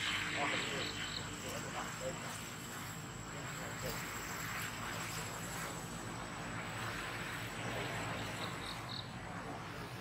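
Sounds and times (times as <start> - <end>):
faint high whine: 0.0 - 10.0
outdoor background hiss: 0.0 - 10.0.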